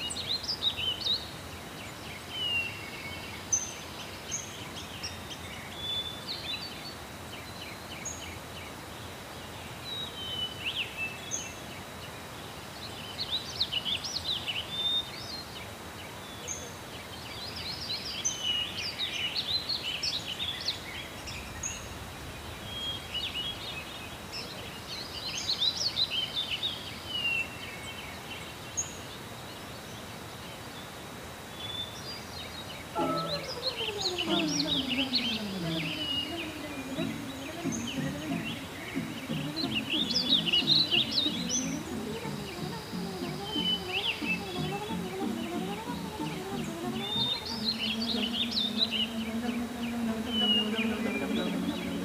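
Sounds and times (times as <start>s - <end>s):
small birds chirping and trilling: 0.0s - 30.1s, 31.6s - 52.0s
steady outdoor hiss: 0.0s - 52.0s.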